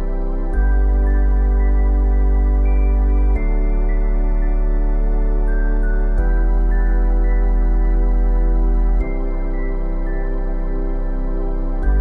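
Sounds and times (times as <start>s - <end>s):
soft new-age sustained chords: 0.0s - 12.0s.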